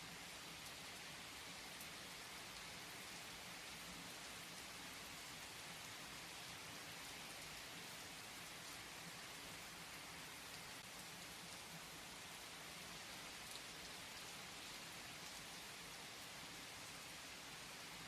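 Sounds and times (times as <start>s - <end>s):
faint rain hiss: 0.0s - 18.0s.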